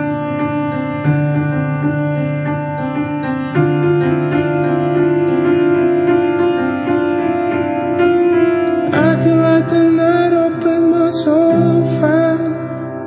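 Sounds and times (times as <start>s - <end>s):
held keyboard chords: 0.0s - 13.0s.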